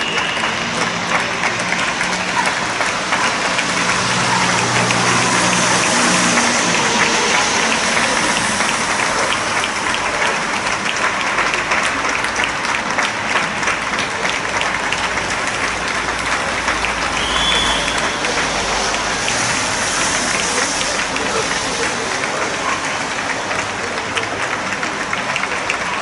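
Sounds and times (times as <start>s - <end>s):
crowd clapping: 0.0s - 26.0s.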